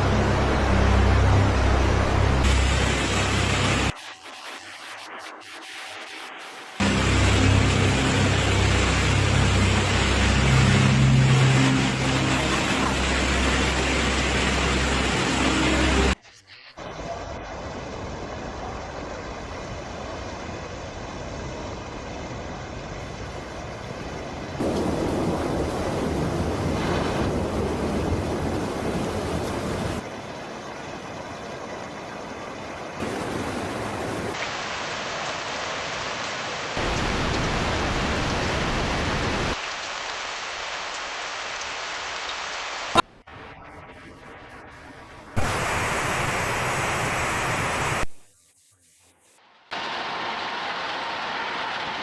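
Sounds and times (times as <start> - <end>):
heavy rain: 0.0 - 16.2, 16.8 - 48.2, 49.7 - 52.0
flowing water: 0.0 - 48.3, 49.1 - 52.0.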